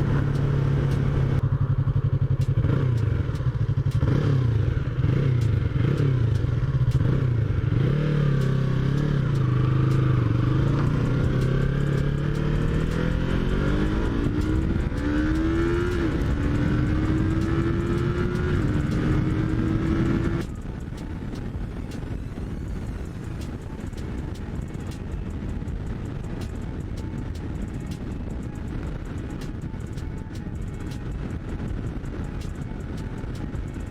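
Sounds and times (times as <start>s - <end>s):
motorcycle engine accelerating: 0.0s - 33.9s.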